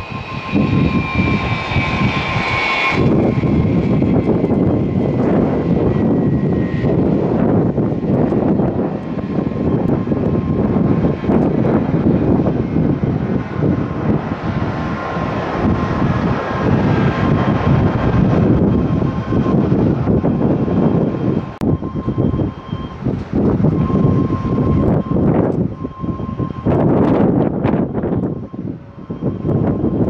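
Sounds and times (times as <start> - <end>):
jet engines at takeoff: 0.0 - 30.0
wind buffeting microphone: 0.0 - 30.0.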